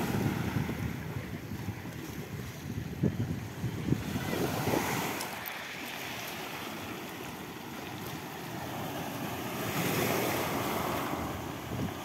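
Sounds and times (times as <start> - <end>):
surf washing over pebbles: 0.0 - 12.0
wind buffeting microphone: 0.0 - 12.0.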